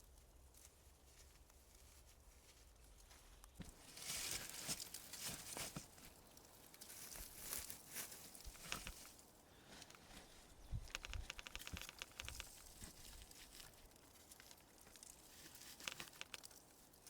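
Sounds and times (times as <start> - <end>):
dry leaves and twigs rustling: 0.0 - 17.0.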